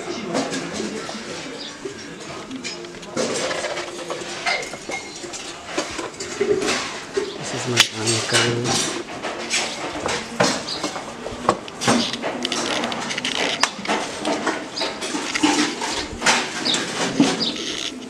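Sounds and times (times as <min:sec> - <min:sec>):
pigeons flapping: 0:00.0 - 0:18.0
rustling and clattering: 0:00.0 - 0:18.0.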